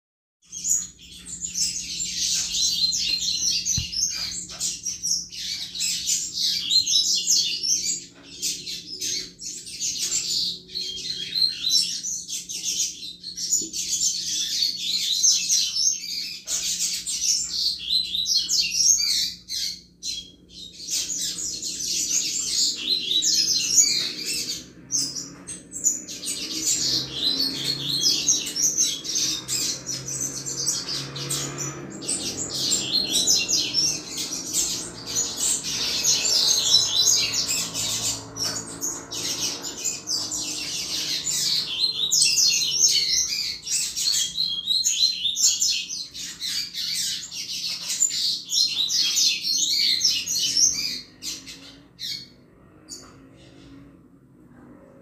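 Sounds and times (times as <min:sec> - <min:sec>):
bird twittering song: 0:00.4 - 0:53.9.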